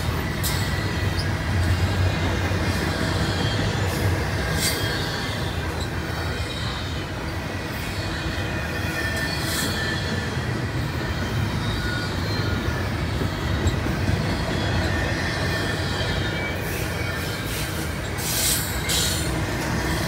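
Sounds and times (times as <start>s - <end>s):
train wheels rumbling on rail: 0.0s - 20.0s
faint wheel squeal: 0.4s - 2.2s, 2.9s - 20.0s.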